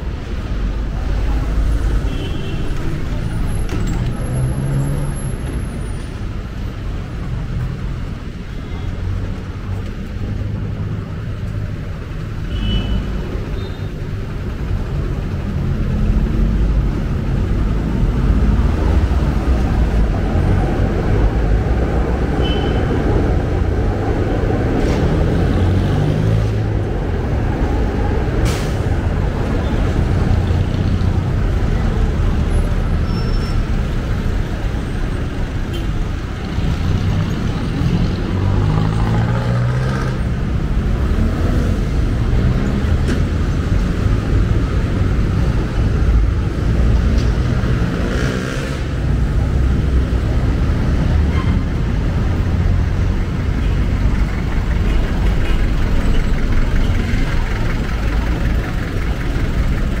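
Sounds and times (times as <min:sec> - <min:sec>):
vehicle engines running: 0:00.0 - 1:00.0.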